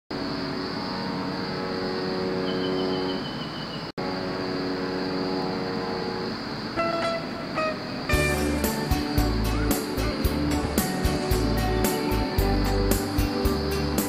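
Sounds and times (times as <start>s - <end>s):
engine drone: 0.1s - 14.0s
high whine: 0.1s - 14.0s.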